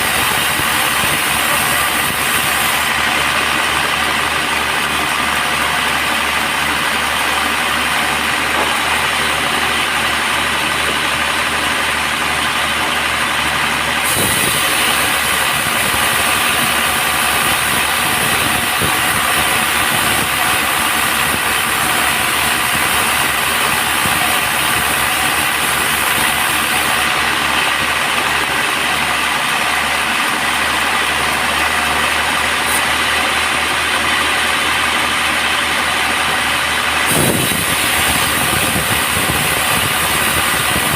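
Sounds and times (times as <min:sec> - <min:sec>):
band sawmill running: 0:00.0 - 0:40.9.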